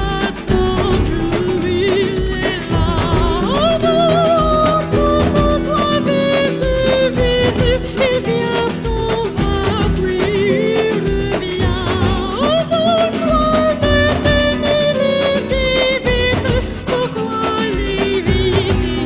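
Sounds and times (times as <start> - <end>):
wavering melody over beat: 0.0 - 19.0.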